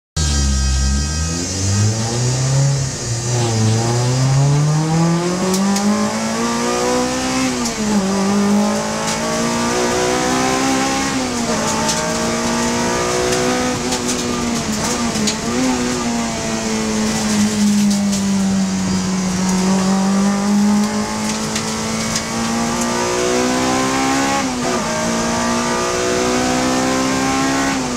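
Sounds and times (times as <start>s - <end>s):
race car engine running hard: 0.2s - 27.9s.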